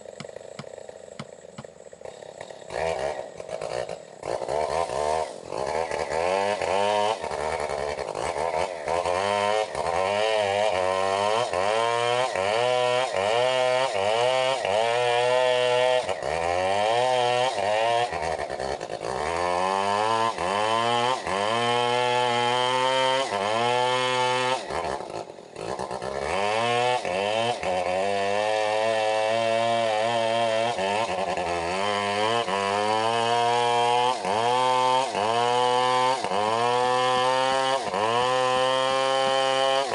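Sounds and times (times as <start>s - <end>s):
chainsaw running hard: 0.0s - 39.9s.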